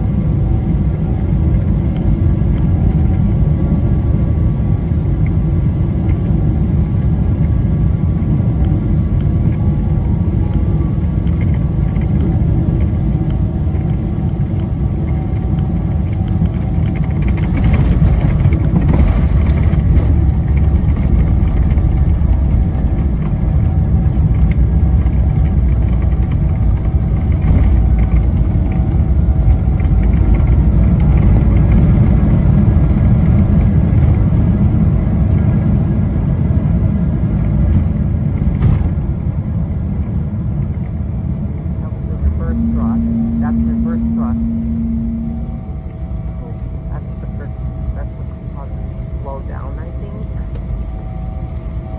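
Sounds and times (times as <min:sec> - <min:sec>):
airplane cabin rumble: 0:00.0 - 0:51.9.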